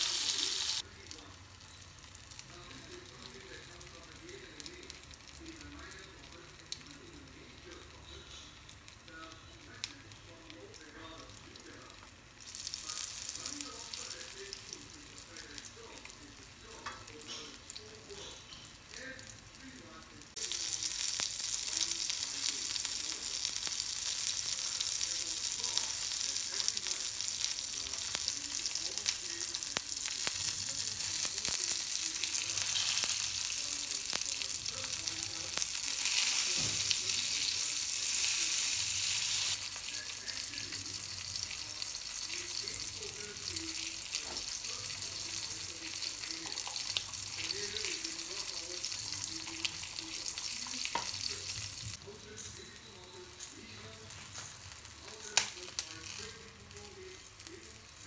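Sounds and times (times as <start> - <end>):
oil sizzling in frying pan: 0.0 - 58.0.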